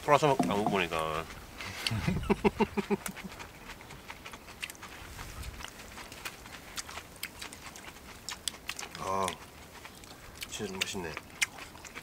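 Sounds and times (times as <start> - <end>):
quiet chewing: 0.1 - 12.0.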